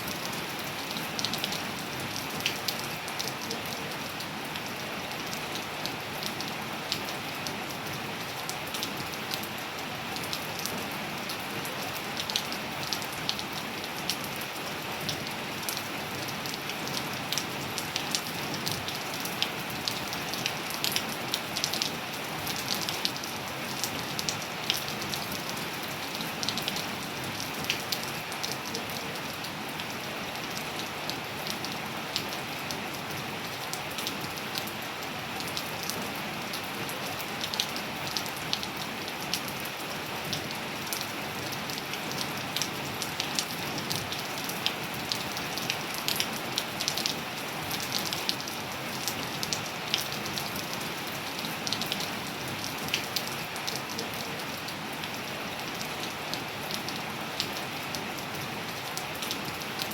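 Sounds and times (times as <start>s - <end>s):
raindrops ticking and splatting: 0.0s - 59.9s
steady rain hiss: 0.0s - 59.9s.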